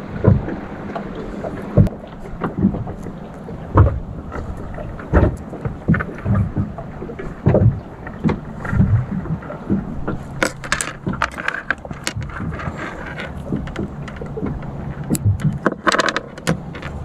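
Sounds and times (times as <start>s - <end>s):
steady low rumble: 0.0s - 17.0s
dull thumps: 0.2s - 0.6s, 1.7s - 6.8s, 7.4s - 17.0s.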